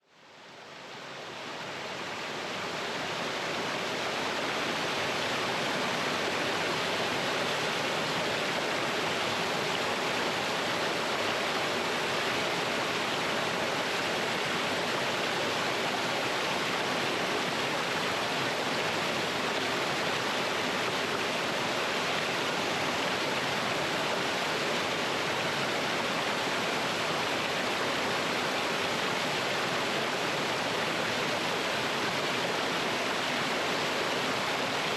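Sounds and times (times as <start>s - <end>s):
waterfall splashing over rocks: 1.8s - 34.9s.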